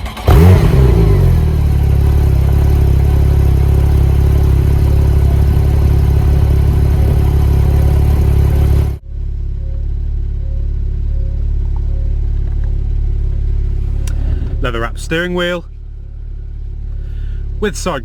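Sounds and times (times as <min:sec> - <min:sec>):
car engine starting and idling: 0:00.0 - 0:18.0.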